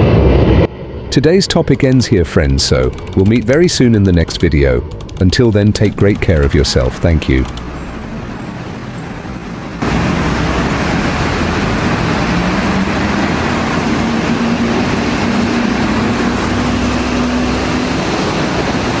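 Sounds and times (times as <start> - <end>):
loud engine noise with rushing: 0.0 - 19.0
low hum rising in pitch: 0.0 - 19.0.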